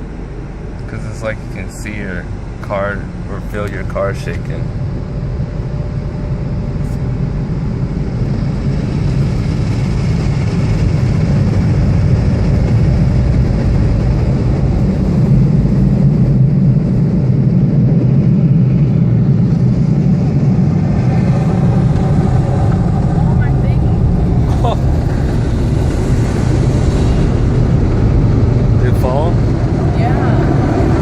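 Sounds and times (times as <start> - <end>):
car wash air dryers blowing: 0.0 - 31.0.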